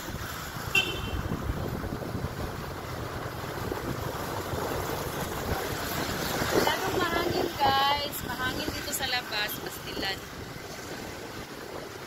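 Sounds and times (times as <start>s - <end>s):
street traffic: 0.0s - 12.0s
wind rumble on microphone: 0.0s - 12.0s.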